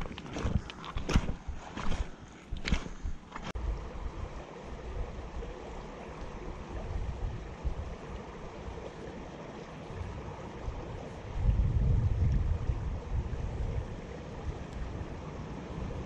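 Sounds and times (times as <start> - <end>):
wind rumbling on microphone: 0.0 - 9.2, 9.8 - 16.0
creek water rushing: 0.0 - 16.0.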